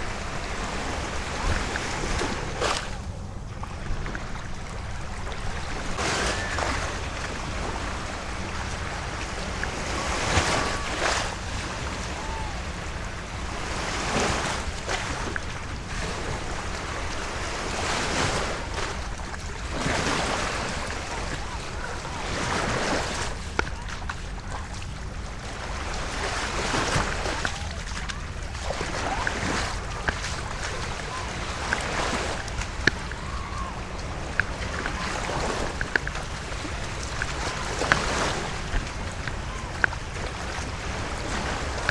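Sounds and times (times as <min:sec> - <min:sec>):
waves lapping on sandy shore: 0:00.0 - 0:41.9.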